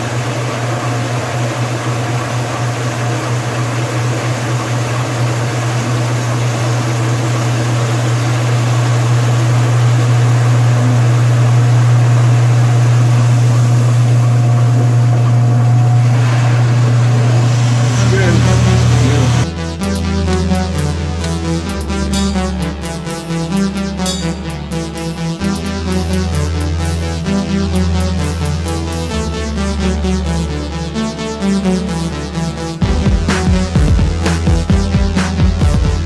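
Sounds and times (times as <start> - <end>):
washing machine running: 0.0 - 36.0.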